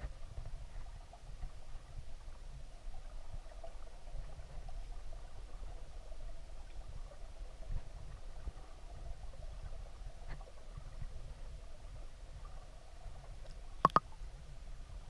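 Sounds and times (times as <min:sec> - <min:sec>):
underwater stream rumble: 0:00.0 - 0:15.0.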